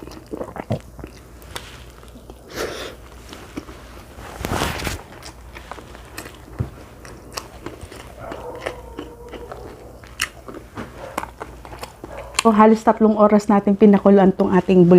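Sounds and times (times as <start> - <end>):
person biting and chewing food: 0.0 - 12.5.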